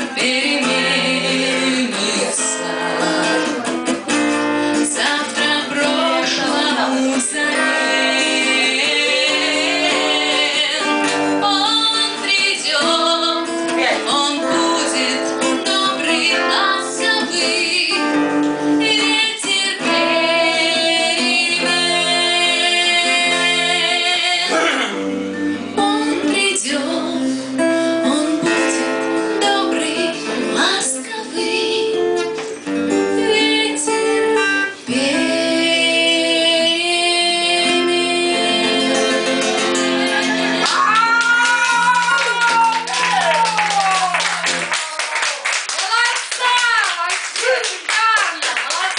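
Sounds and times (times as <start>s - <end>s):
woman singing: 0.0s - 3.7s, 4.7s - 24.7s, 25.6s - 44.2s
guitar accompaniment: 0.0s - 48.9s.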